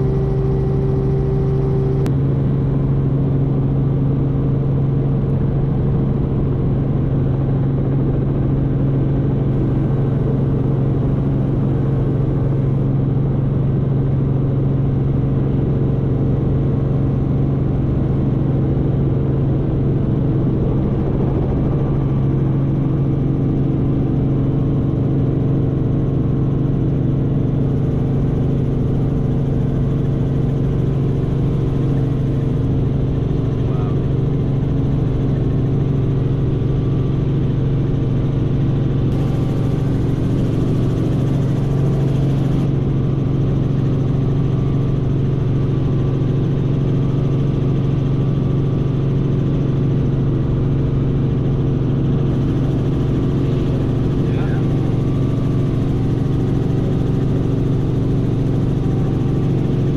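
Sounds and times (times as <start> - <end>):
helicopter engine and rotors: 0.0 - 59.9.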